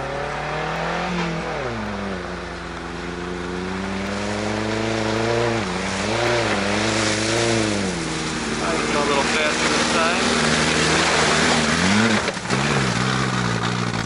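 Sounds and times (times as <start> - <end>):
pickup truck engine revving: 0.0 - 14.0.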